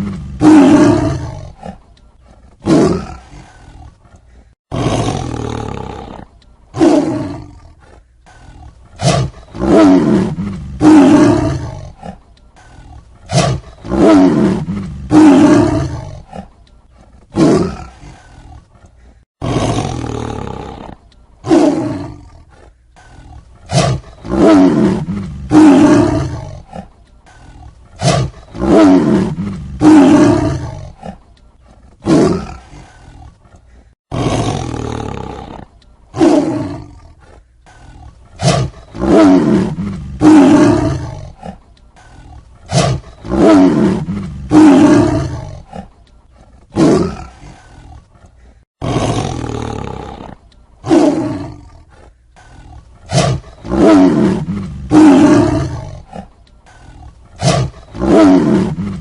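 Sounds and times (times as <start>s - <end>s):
tiger roaring: 0.0s - 59.0s
tiger snarling: 0.0s - 59.0s.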